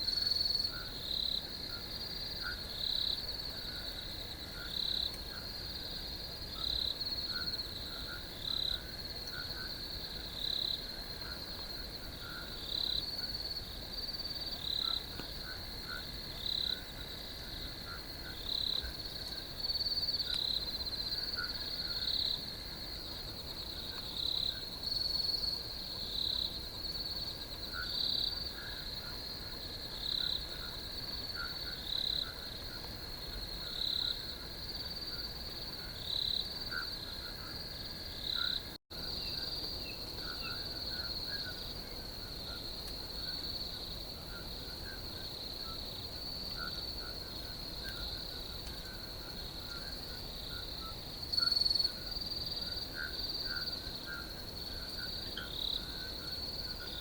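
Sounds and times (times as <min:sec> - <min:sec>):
crickets trilling: 0:00.0 - 0:57.0
loud cricket chirp: 0:00.0 - 0:57.0.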